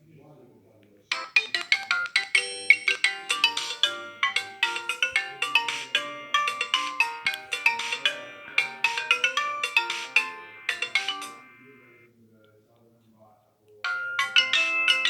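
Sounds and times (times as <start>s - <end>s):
polyphonic phone ringtone: 1.1s - 12.1s, 13.9s - 15.0s.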